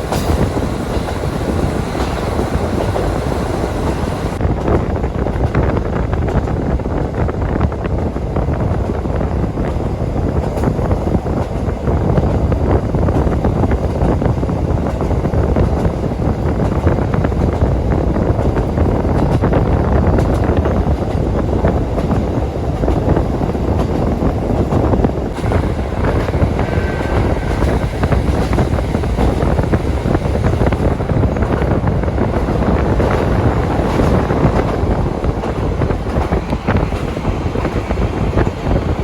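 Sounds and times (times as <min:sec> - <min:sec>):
train engine and wheels rumbling: 0:00.0 - 0:39.0
wind noise: 0:00.0 - 0:39.0.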